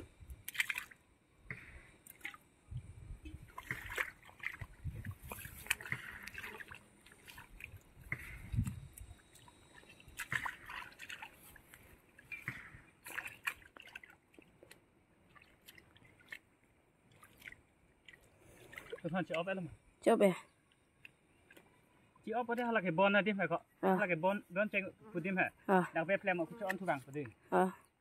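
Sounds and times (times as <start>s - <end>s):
pond water sloshing and dripping: 0.0s - 23.8s.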